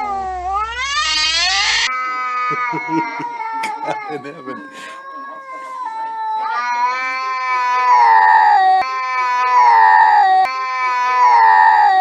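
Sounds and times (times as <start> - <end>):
cat yowling: 0.0 - 12.0.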